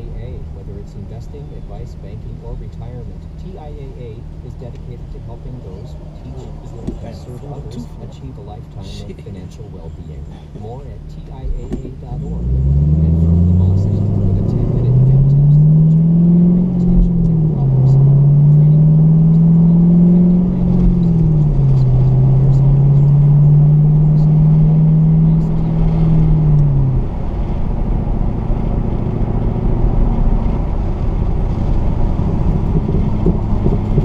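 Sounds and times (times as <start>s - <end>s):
car engine droning: 0.0s - 34.0s
road noise: 0.0s - 34.0s.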